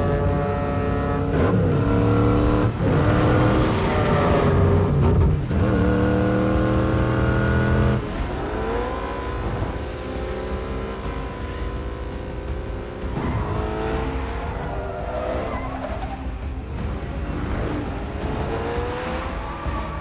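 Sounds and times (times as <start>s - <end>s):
car engine revving high: 0.0s - 20.0s.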